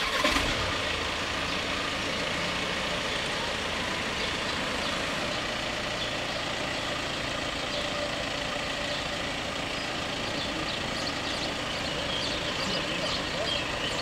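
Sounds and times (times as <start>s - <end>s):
heavy engine idling: 0.0s - 14.0s.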